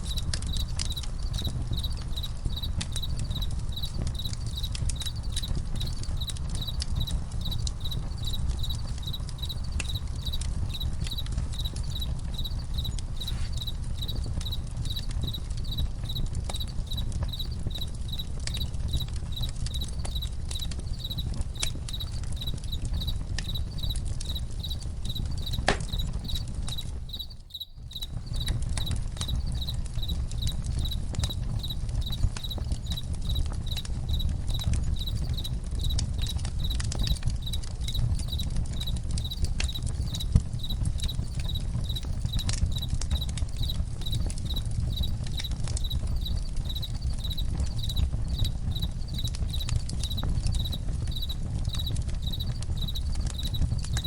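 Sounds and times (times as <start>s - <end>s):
campfire crackling and popping: 0.0s - 54.0s
crickets chirping: 0.0s - 54.0s.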